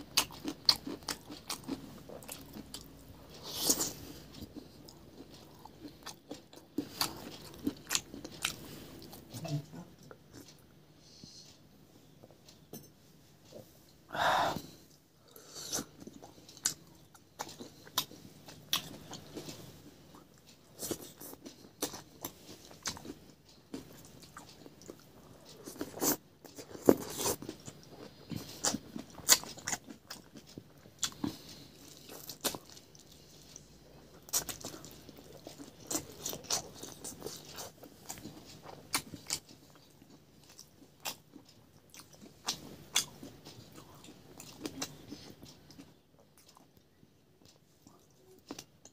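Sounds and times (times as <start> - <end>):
person chewing crunchy food: 0.0 - 10.6, 15.3 - 48.9.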